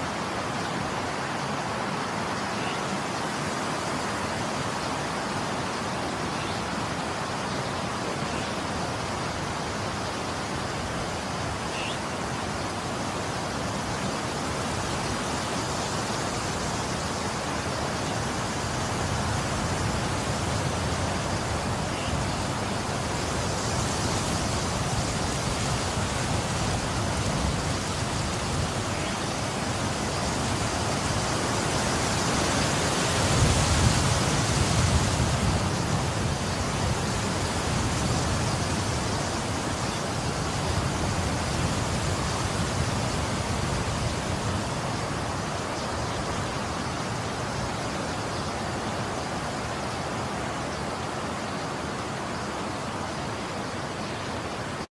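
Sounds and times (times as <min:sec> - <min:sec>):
wind blowing in gusts: 0:00.0 - 0:54.9.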